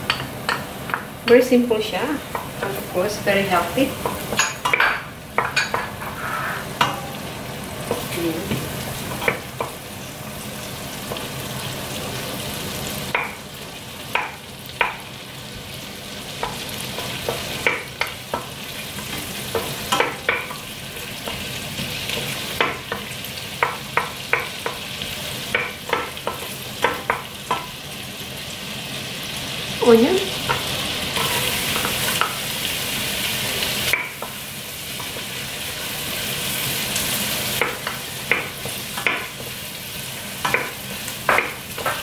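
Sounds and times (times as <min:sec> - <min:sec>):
garlic sizzling in butter: 0:00.0 - 0:42.0.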